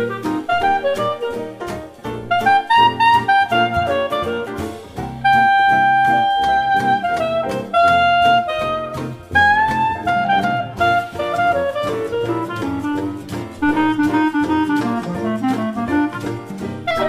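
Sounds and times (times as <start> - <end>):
jazz music: 0.0 - 17.0.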